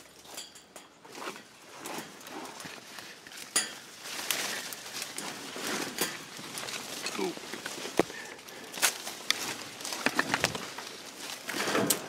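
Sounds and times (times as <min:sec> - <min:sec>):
leaves and branches rustling: 0:00.0 - 0:12.0
twigs crackling: 0:01.2 - 0:12.0.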